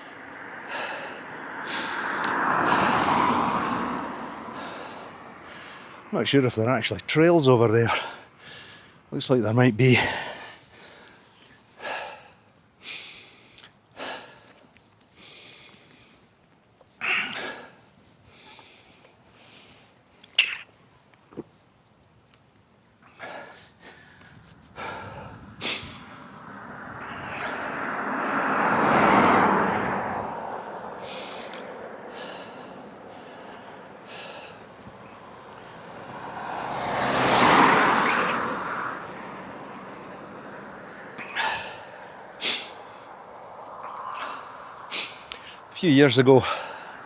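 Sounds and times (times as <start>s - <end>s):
cyclist breathing sharply: 0.0s - 6.1s, 7.9s - 9.1s, 10.0s - 16.5s, 17.1s - 20.4s, 23.1s - 45.8s, 46.4s - 47.0s
motor vehicles passing: 0.0s - 47.0s.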